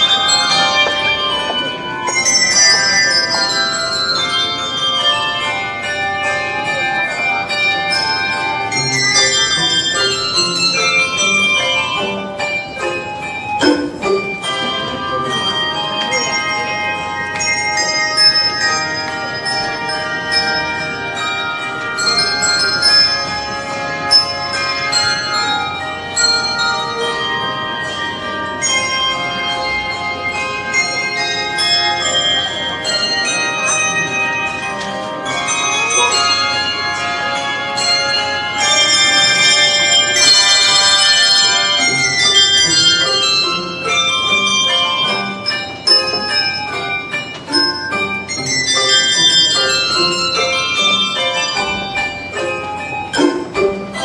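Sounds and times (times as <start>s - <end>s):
handbell choir playing: 0.0s - 54.0s.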